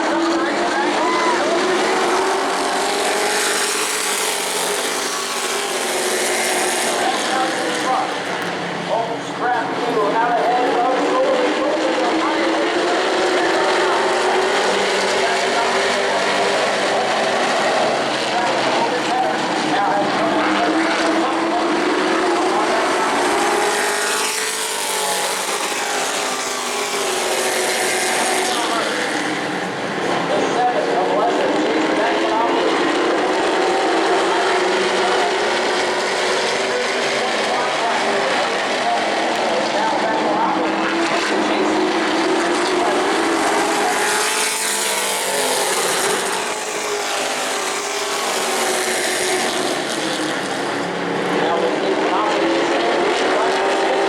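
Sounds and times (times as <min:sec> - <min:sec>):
race truck engines passing: 0:00.0 - 0:54.0.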